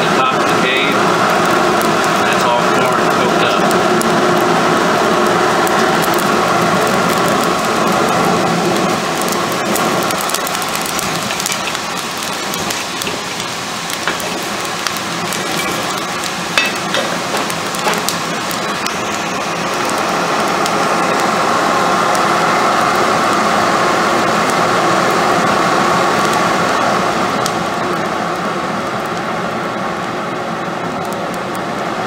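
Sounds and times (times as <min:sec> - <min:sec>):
corn crackling and popping: 0:00.0 - 0:32.0
forced air rushing through fire: 0:00.0 - 0:32.0.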